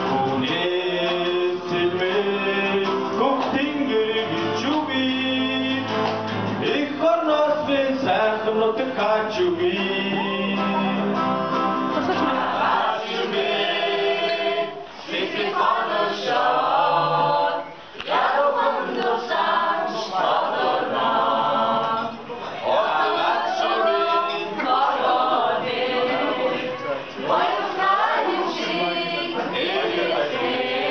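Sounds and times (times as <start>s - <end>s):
group of voices singing: 0.0s - 30.9s.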